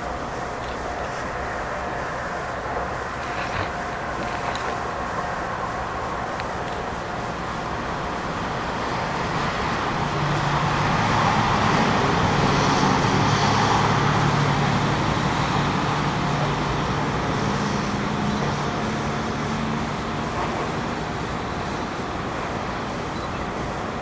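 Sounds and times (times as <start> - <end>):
railcar diesel engine running: 0.0 - 24.0.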